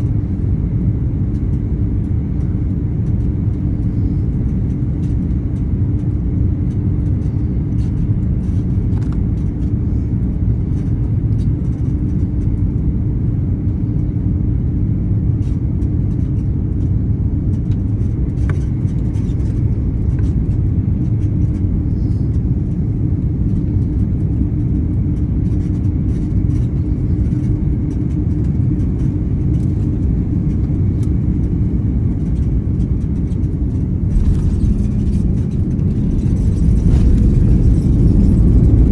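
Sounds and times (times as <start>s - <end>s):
jet engine and airflow rumble: 0.0s - 38.9s
steady cabin hum: 0.0s - 38.9s.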